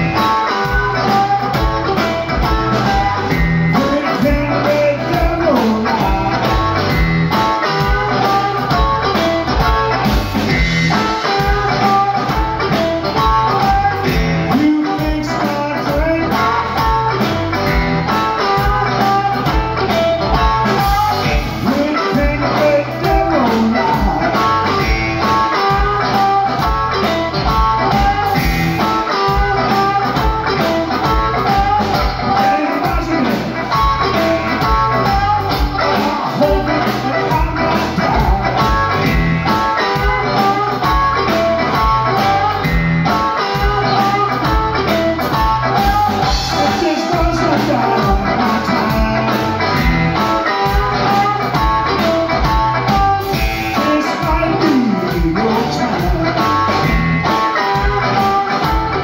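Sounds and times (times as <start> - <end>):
drums at steady beat: 0.0 - 59.0
electric guitar: 0.0 - 59.0
live blues band: 0.0 - 59.0.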